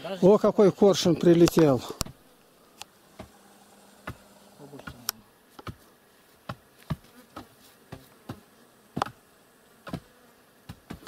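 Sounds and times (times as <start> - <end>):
flying insects buzzing: 0.0 - 11.0.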